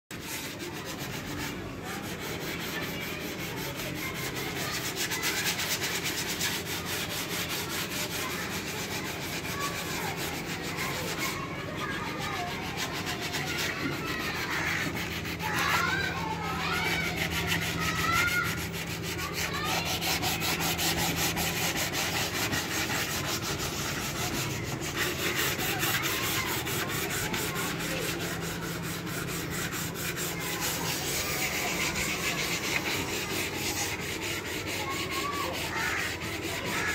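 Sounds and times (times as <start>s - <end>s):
sandpaper rasping on wood: 0.1s - 36.9s.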